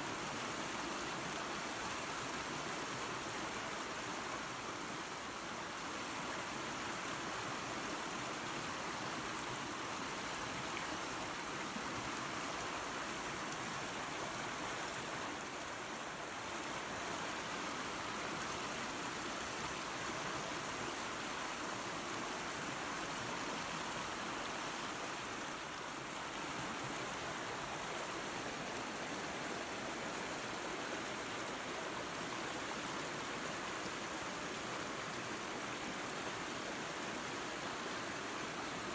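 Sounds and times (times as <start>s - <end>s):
waterfall and creek water rushing: 0.0s - 38.9s.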